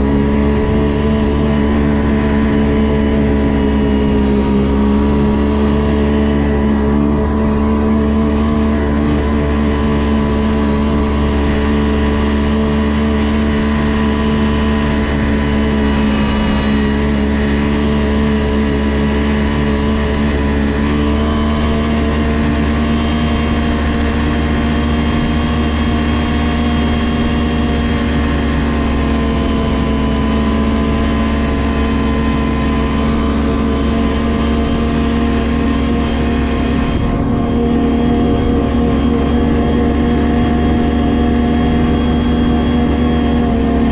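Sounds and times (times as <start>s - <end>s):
snowmobile engine running: 0.0s - 43.9s.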